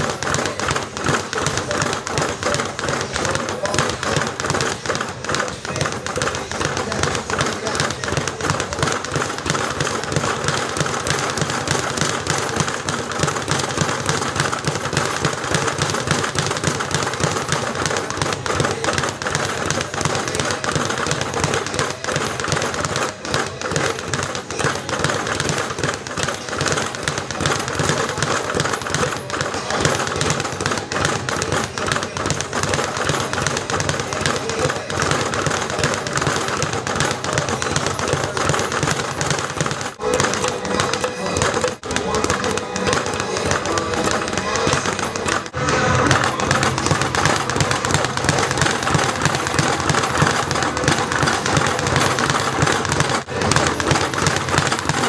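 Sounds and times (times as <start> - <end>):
speed bag rattling: 0.0 - 55.0.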